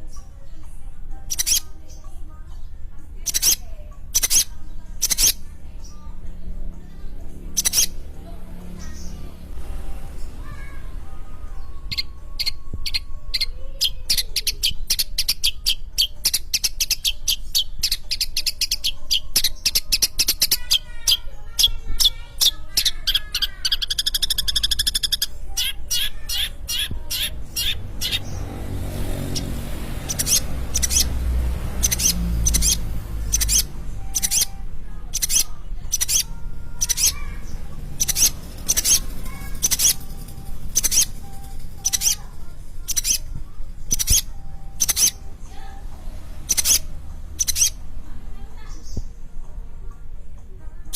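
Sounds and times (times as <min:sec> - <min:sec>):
bird chattering song: 0:00.0 - 0:48.0.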